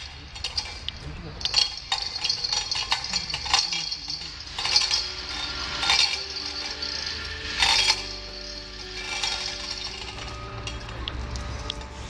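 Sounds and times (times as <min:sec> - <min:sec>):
steel chain rattling: 0:00.0 - 0:12.0.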